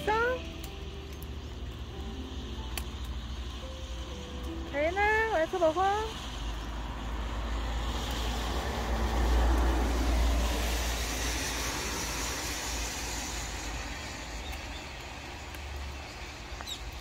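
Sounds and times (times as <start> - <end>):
vehicle passing by: 1.6 - 17.0.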